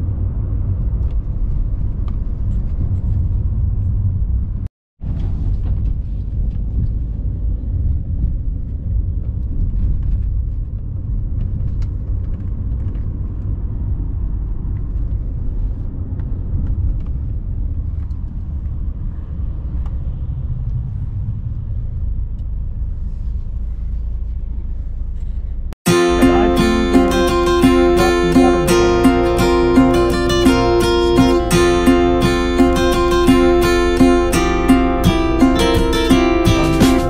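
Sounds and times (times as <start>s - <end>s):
road rumble inside car: 0.0s - 37.0s.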